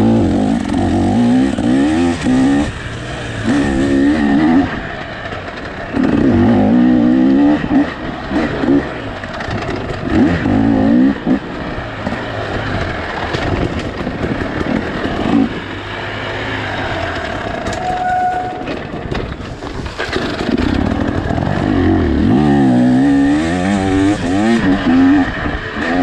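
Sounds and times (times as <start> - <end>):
two-stroke dirt bike engine revving: 0.0 - 26.0.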